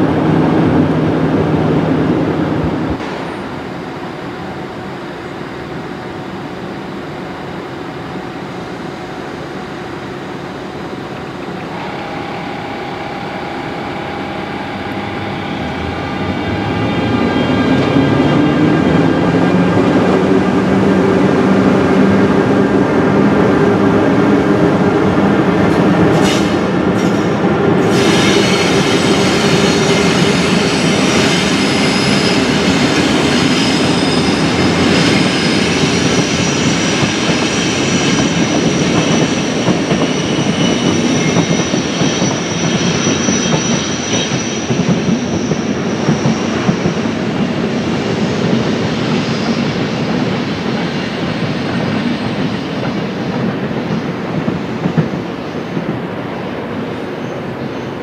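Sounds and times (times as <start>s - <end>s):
electric locomotive humming and whining: 0.0s - 58.0s.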